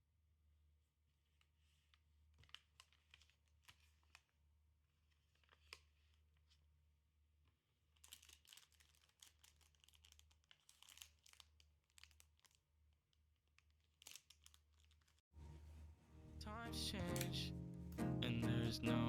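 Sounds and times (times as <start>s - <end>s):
crinkling and rustling by hand: 1.0s - 16.4s.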